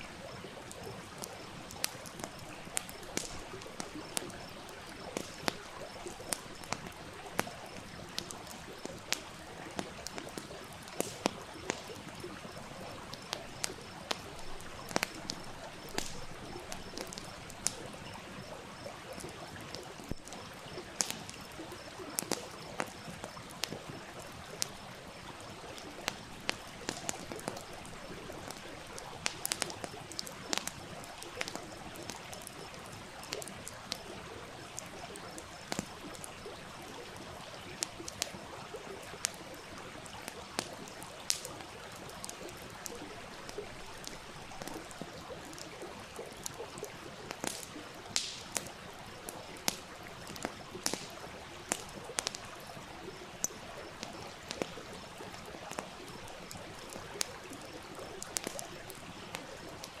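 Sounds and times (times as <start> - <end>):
campfire crackling: 0.0 - 60.0.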